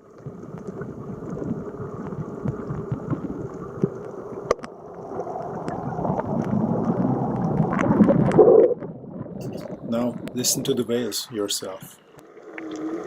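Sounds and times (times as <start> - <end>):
water gurgling and sloshing: 0.0 - 13.0.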